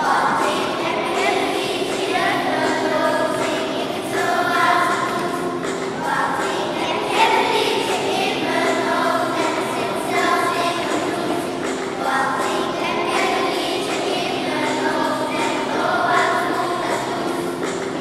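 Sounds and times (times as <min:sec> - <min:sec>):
children's choir singing: 0:00.0 - 0:18.0.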